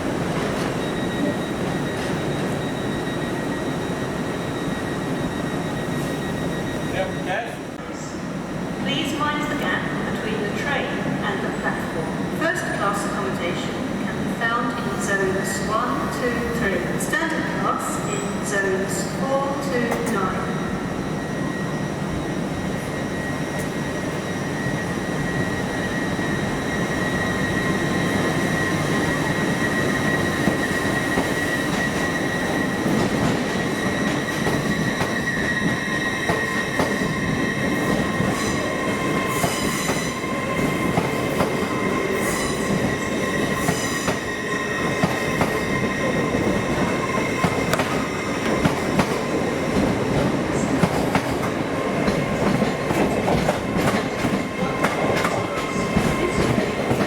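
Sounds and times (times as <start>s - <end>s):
low train rumble: 0.0s - 57.0s.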